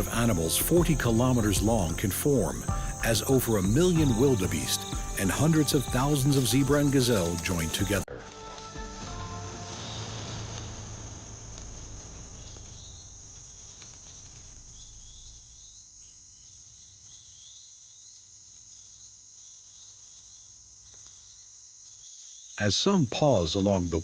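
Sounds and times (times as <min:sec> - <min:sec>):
crickets chorus: 0:00.0 - 0:24.0.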